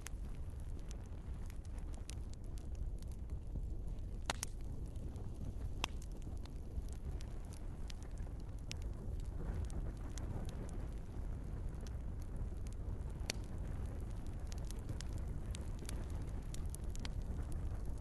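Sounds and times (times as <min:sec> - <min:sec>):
wood fire burning: 0:00.0 - 0:18.0.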